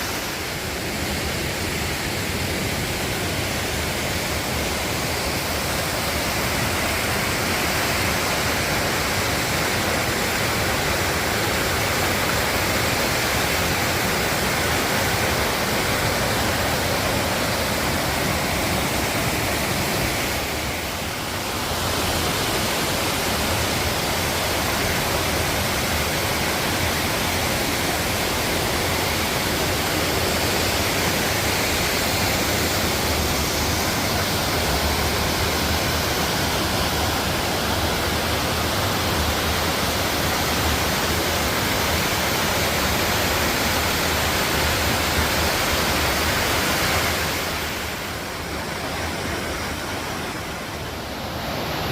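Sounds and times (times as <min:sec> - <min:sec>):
rushing stream water: 0:00.0 - 0:51.9.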